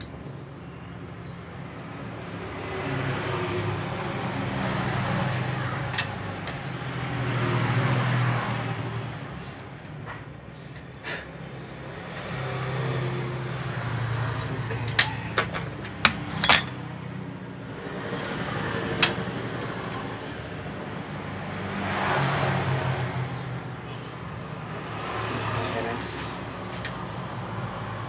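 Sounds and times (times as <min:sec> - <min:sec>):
road traffic rumbling: 0:00.0 - 0:28.0.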